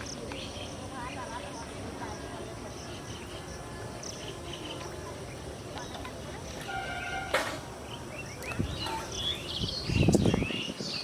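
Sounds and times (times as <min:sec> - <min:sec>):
birds chirping: 0:00.0 - 0:11.0
insects: 0:00.0 - 0:11.0.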